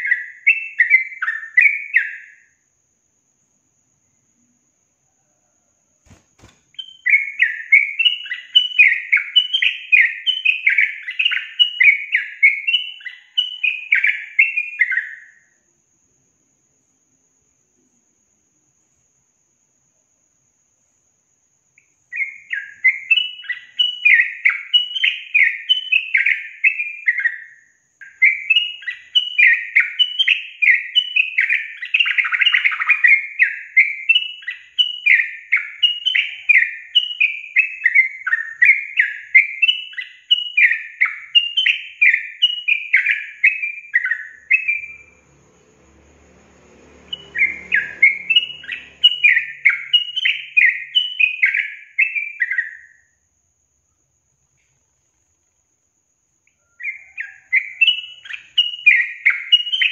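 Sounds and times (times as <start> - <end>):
bird chirping song: 0.0 - 59.9.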